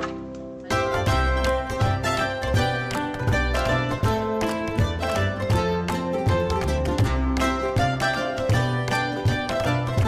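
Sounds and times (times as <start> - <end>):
music with plucked notes: 0.0 - 10.0.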